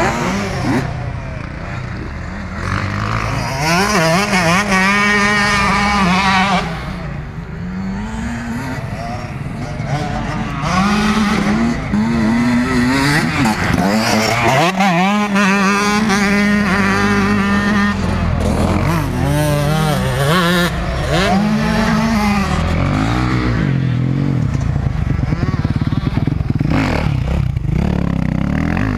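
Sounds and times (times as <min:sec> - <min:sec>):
motocross bike engine revving: 0:00.0 - 0:28.9
motorbike engine at low revs: 0:00.0 - 0:28.9.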